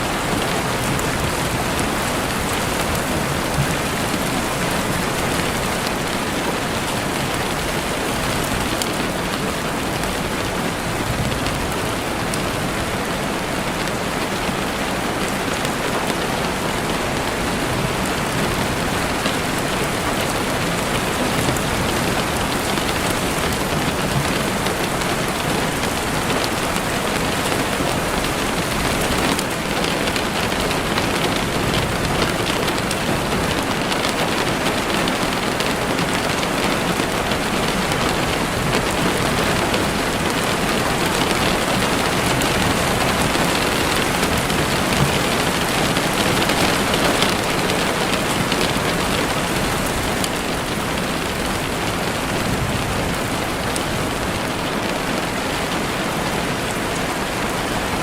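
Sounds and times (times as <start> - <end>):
rain pattering through trees: 0.0 - 58.0.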